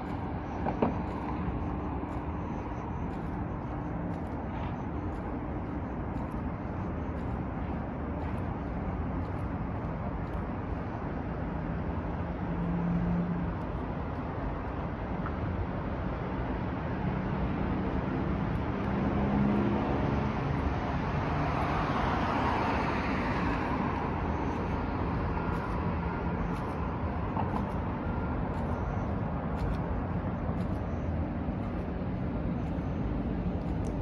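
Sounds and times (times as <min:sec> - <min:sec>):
city traffic noise: 0:00.0 - 0:34.0.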